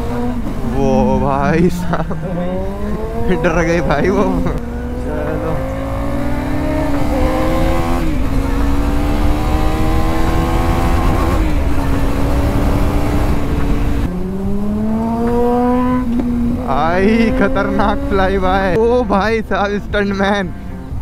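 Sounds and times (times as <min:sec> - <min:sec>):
motorcycle engine accelerating: 0:00.0 - 0:19.3.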